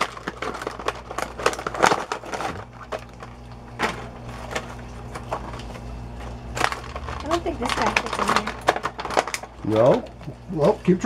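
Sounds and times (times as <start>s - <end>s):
cardboard and plastic packaging crinkling: 0.0s - 11.0s.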